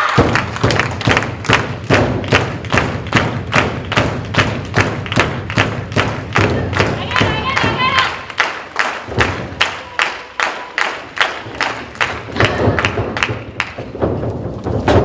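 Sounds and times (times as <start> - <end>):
audience clapping in unison: 0.0 - 14.1.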